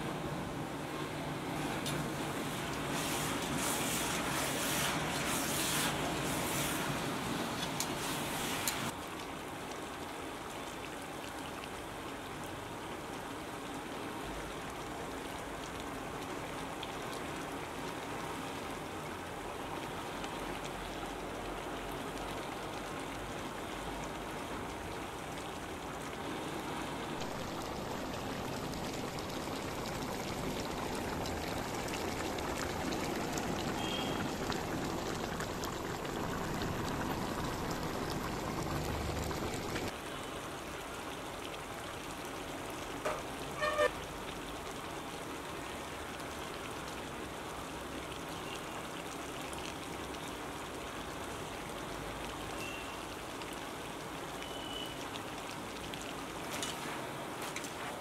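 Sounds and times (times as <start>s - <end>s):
food frying in hot oil: 0.7s - 58.0s.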